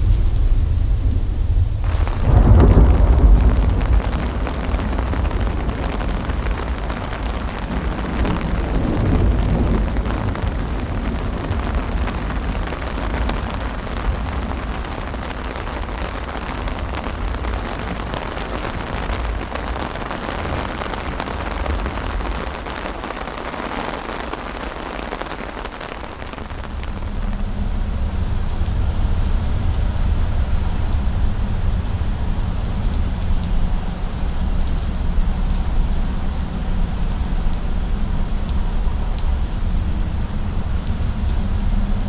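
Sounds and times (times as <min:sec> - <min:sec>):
continuous low rumble: 0:00.0 - 0:42.0
rain falling on surfaces: 0:00.0 - 0:42.0.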